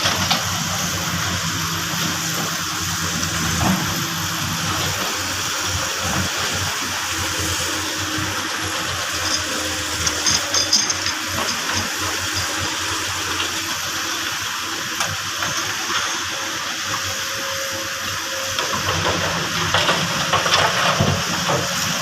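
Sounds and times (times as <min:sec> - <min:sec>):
construction machinery hissing: 0:00.0 - 0:22.0.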